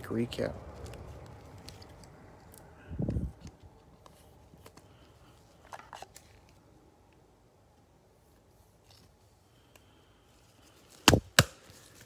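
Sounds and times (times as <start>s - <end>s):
cards rustling in plastic sleeves: 0.0s - 7.3s, 8.0s - 12.0s.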